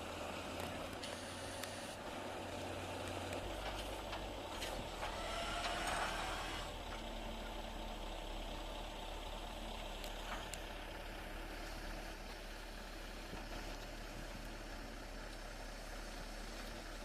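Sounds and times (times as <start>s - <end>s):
heavy machine engine idling: 0.0s - 17.0s.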